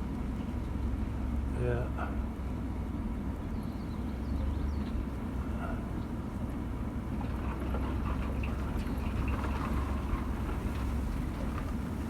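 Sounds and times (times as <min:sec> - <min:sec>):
vehicle driving over rough track: 0:02.3 - 0:12.0.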